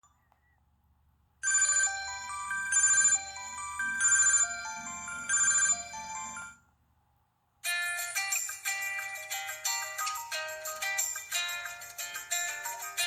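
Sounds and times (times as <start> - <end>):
electronic phone ringtone melody: 1.4 - 6.6, 7.6 - 13.0.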